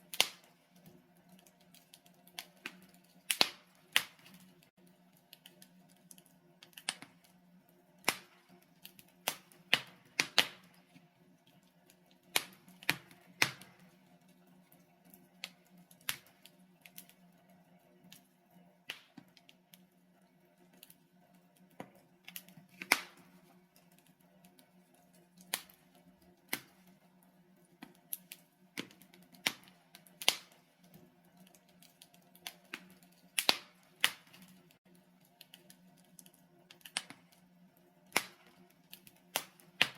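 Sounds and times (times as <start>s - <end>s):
wood logs crackling in fireplace: 0.0s - 39.9s.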